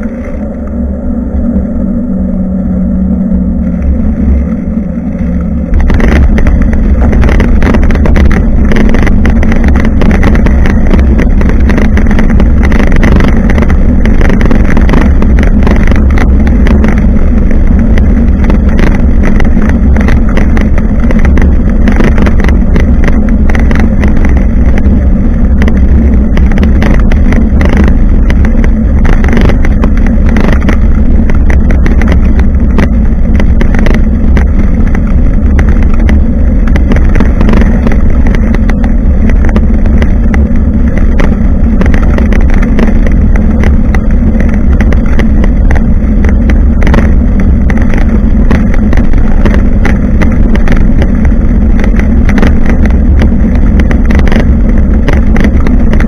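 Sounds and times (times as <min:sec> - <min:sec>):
road vibration rumble: 0:00.0 - 0:56.0
wind buffeting microphone: 0:00.0 - 0:56.0
small rattles and knocks: 0:05.7 - 0:56.0.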